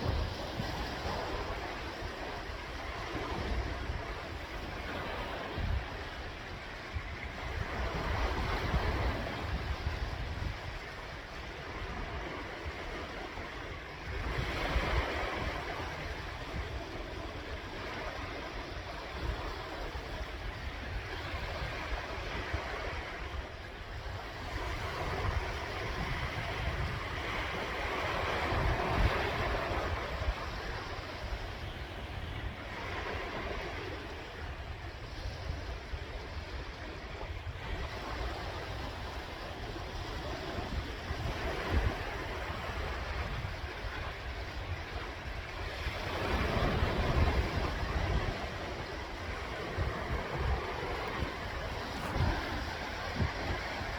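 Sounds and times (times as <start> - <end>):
sea waves washing ashore: 0.0 - 53.9
wind rumbling on microphone: 0.0 - 53.9.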